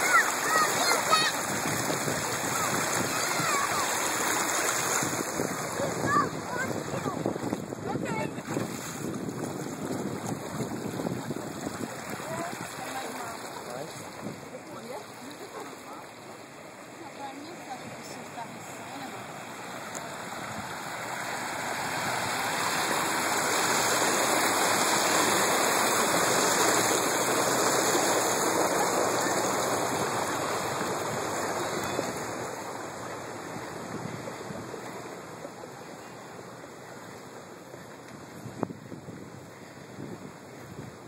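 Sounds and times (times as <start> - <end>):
water rushing in stone channel: 0.0 - 38.6.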